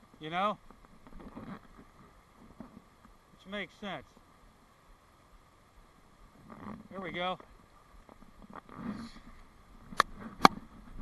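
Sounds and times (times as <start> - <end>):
stream water over rocks: 0.0 - 11.0.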